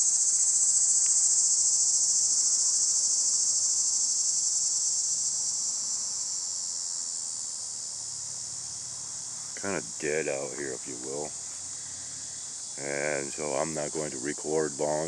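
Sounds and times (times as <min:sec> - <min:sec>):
insect chorus buzzing trill: 0:00.0 - 0:15.0.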